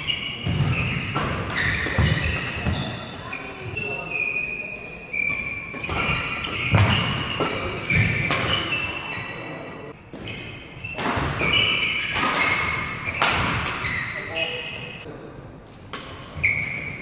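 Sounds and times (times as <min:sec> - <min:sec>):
shoes squeaking on court: 0:00.0 - 0:15.0, 0:16.2 - 0:17.0.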